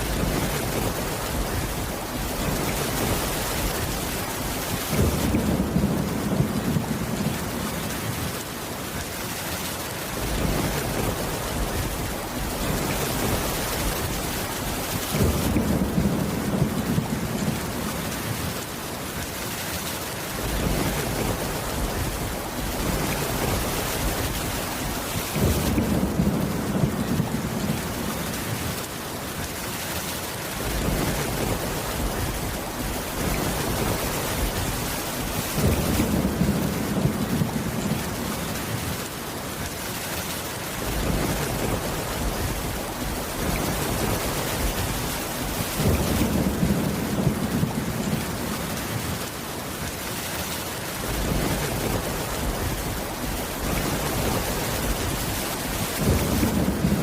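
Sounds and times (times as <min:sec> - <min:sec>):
thunder rumbling: 0:00.0 - 0:08.5, 0:10.1 - 0:18.7, 0:20.4 - 0:28.9, 0:30.6 - 0:39.2, 0:40.8 - 0:49.4, 0:50.9 - 0:57.0
heavy rain on a wooden roof: 0:00.0 - 0:57.0.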